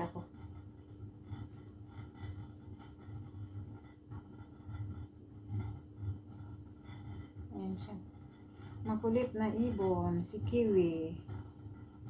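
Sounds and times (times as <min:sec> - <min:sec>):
rice boiling rumble: 0:00.0 - 0:12.0.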